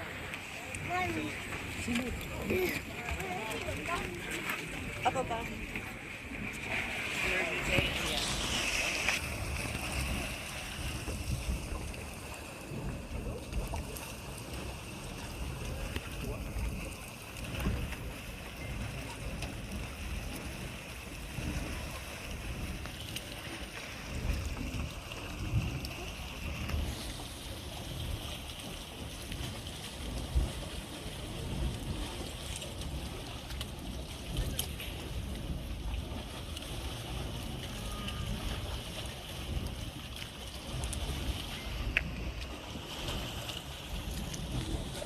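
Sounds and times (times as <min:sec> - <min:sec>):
hot spring rushing: 0:00.0 - 0:45.0
low rumble: 0:00.0 - 0:45.0.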